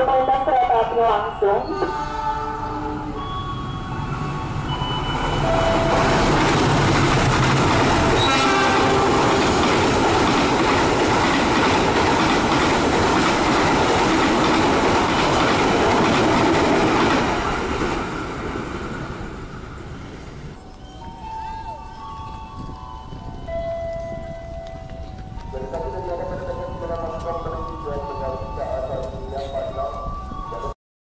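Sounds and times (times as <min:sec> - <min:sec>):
passing train rumble: 0:00.0 - 0:30.7.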